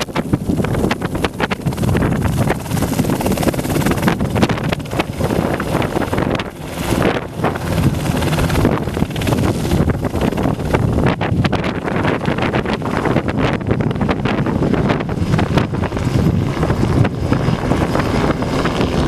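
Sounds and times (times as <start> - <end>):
helicopter engine and rotor: 0.0 - 19.0
wind buffeting microphone: 0.0 - 19.0.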